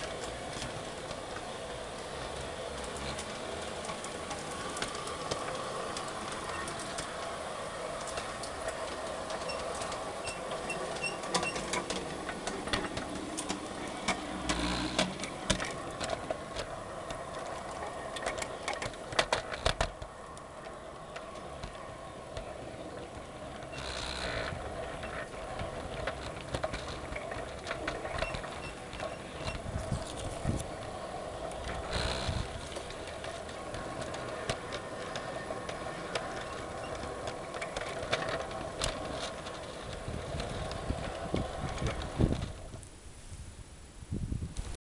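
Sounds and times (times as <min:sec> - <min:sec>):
model train motor whine: 0:00.0 - 0:42.8
train clattering: 0:00.0 - 0:43.0
wheels clicking on track: 0:00.0 - 0:44.7.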